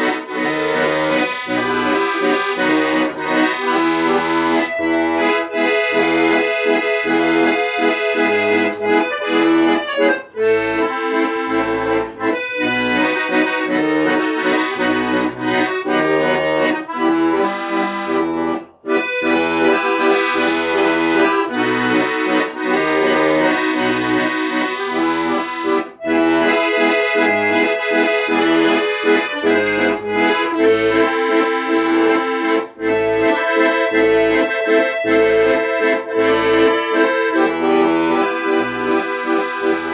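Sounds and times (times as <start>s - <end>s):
accordion chords: 0.0s - 39.9s.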